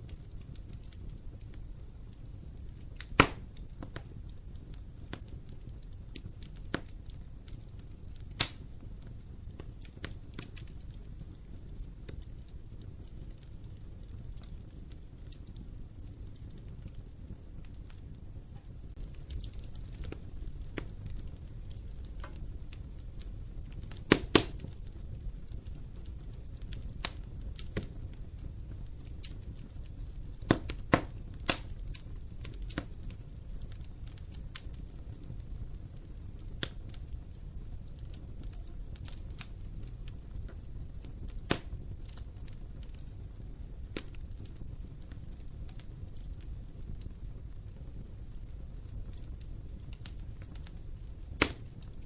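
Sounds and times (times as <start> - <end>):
low rumble of flames: 0.0 - 52.0
wood fire crackling and popping: 0.0 - 52.0.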